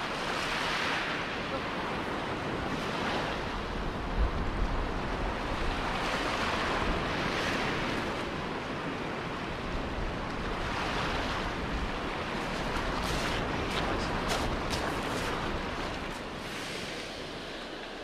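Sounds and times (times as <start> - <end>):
wind buffeting microphone: 0.0 - 17.6
waves washing up shingle beach: 0.0 - 18.0.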